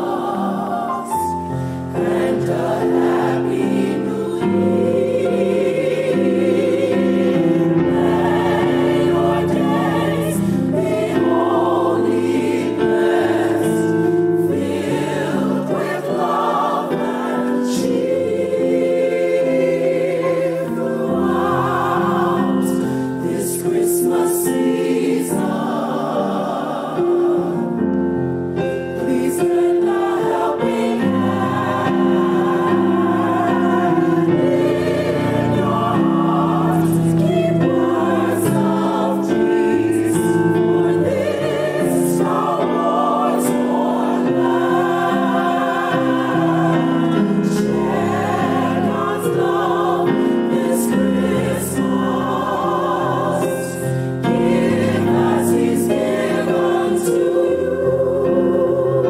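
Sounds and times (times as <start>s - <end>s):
gospel choir singing: 0.0s - 59.0s.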